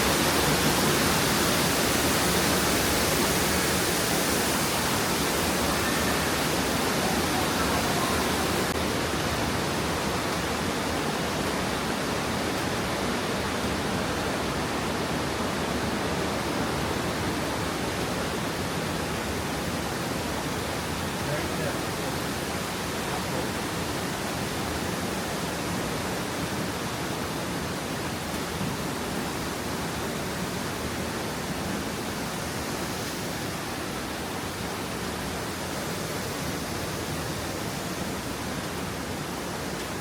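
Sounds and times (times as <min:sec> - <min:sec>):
falling water rushing: 0:00.0 - 0:40.0.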